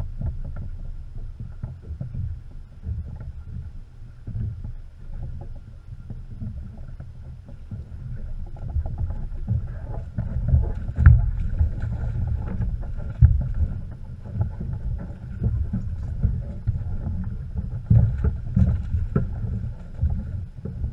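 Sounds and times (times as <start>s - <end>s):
water splashing against boat: 0.0s - 20.9s
wind rumbling on microphone: 0.0s - 20.9s.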